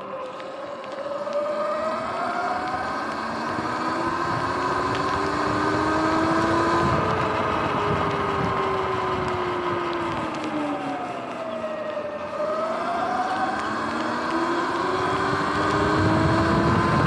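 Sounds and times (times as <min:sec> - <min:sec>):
electric motor whining: 0:00.0 - 0:17.0
wind and road noise: 0:00.0 - 0:17.0.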